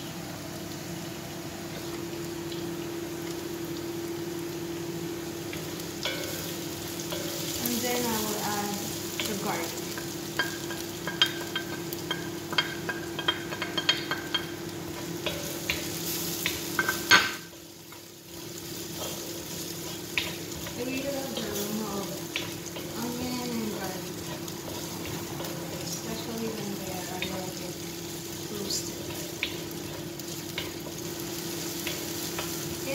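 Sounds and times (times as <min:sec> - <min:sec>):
garlic sizzling in hot oil: 0:00.0 - 0:32.9
spatula scraping and tapping wok: 0:05.5 - 0:32.9.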